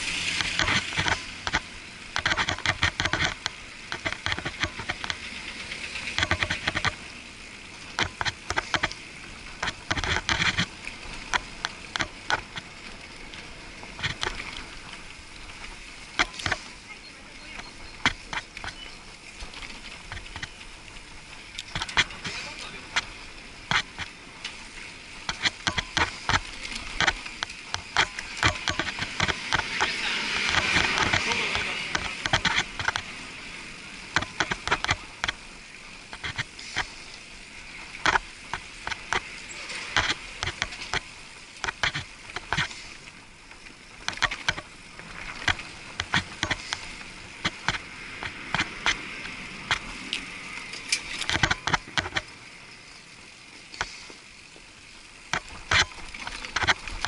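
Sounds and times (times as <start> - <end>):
bicycle clicks and knocks on paving: 0.0 - 57.0
muffled bicycle riding noise: 0.0 - 57.0.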